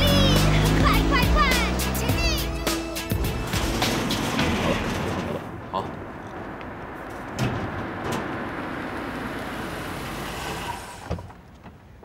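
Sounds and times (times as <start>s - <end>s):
car engine and tyres rushing: 0.0s - 12.0s.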